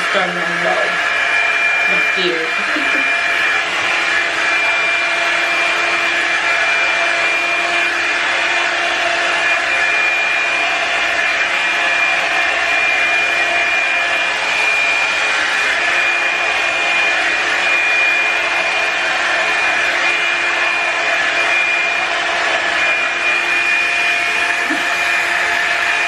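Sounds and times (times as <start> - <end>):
blow dryer running: 0.0 - 26.0.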